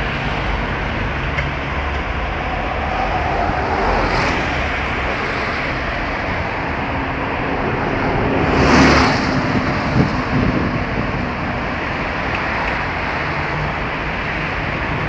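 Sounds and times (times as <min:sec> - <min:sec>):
bus passing: 0:00.0 - 0:15.0
street traffic: 0:00.0 - 0:15.0.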